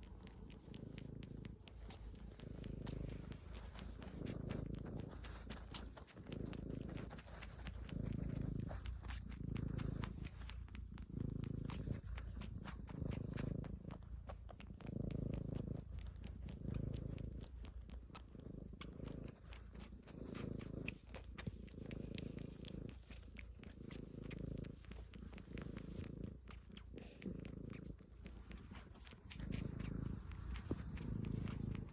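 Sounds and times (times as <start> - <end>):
cat purring: 0.0 - 31.9
rapid suckling clicks: 0.0 - 31.9.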